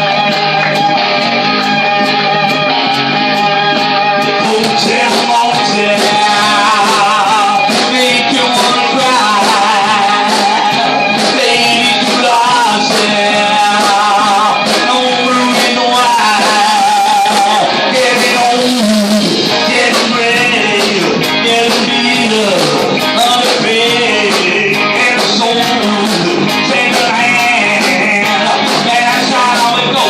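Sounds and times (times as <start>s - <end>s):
amplified electric guitars: 0.0s - 30.0s
drums with crashing cymbals: 0.0s - 30.0s
wavering lead melody: 0.0s - 30.0s.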